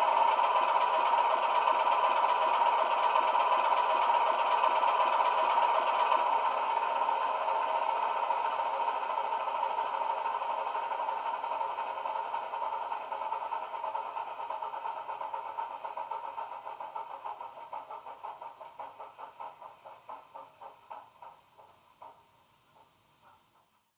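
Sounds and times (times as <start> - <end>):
diesel engine through small speakers: 0.0 - 23.9.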